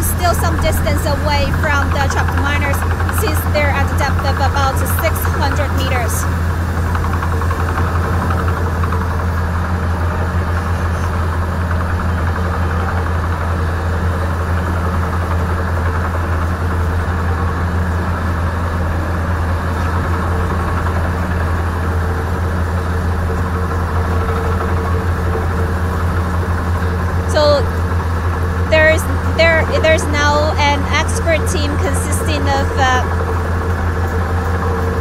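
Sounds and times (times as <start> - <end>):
heavy machinery engine droning: 0.0 - 35.0.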